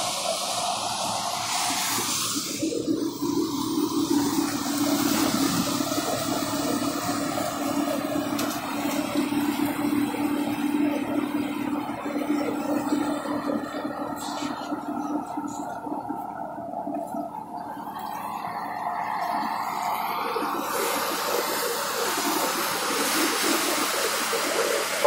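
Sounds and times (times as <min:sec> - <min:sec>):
straw and chaff rushing out: 0:00.0 - 0:15.8, 0:18.2 - 0:25.0
thresher machine hum: 0:00.1 - 0:25.0.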